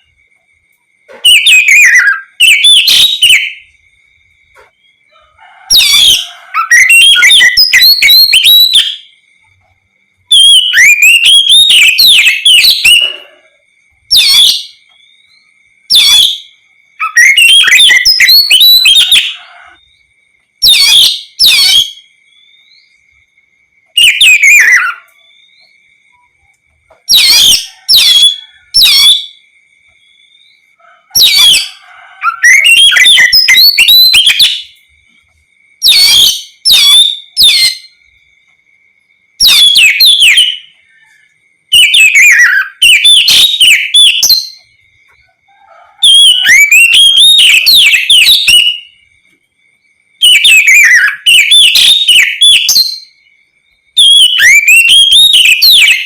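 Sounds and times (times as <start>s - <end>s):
bird singing whistled notes: 1.1s - 4.0s, 5.8s - 23.2s, 23.8s - 35.2s, 35.8s - 38.2s, 39.4s - 45.2s, 46.0s - 49.1s, 49.8s - 56.0s.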